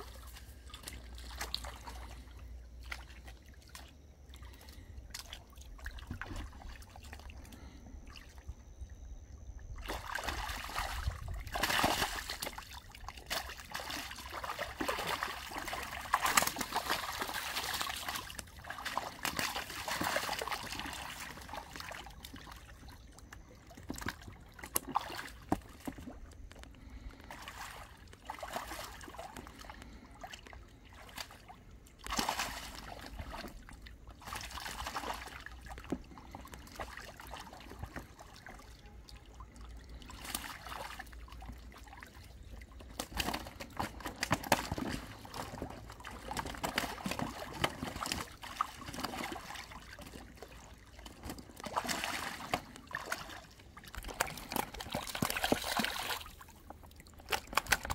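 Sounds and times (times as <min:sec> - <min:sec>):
muddy water splashing: 0:00.0 - 0:57.9.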